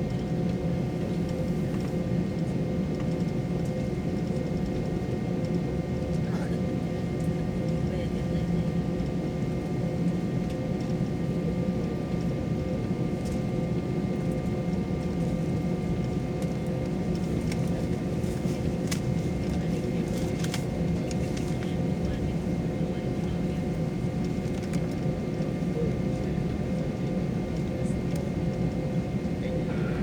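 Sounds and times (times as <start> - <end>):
jet engines droning: 0.0 - 30.0.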